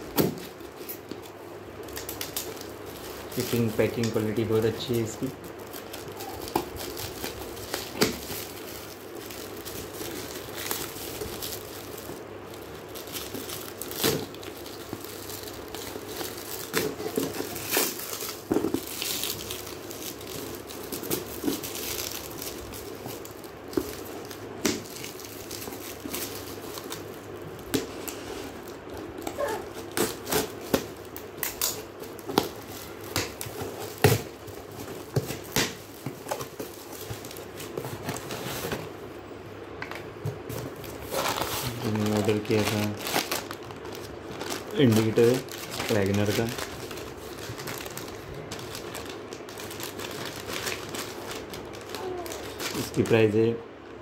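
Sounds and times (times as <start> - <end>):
plastic wrap crinkling and tearing: 0.0 - 38.8, 40.5 - 53.6.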